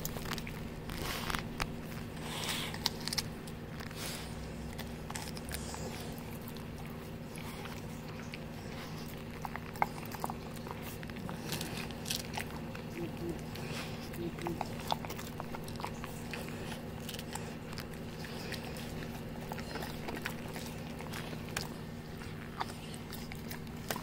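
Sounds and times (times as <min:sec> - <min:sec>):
dog crunching vegetables: 0:00.0 - 0:24.0.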